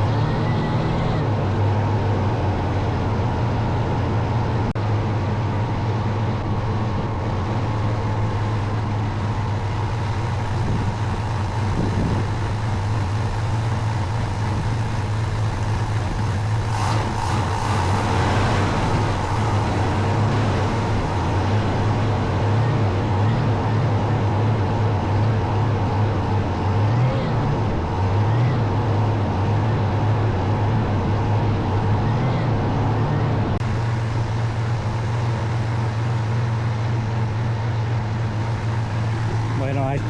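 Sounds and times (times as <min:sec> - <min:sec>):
truck engine idling: 0:00.0 - 0:27.0, 0:33.6 - 0:40.0.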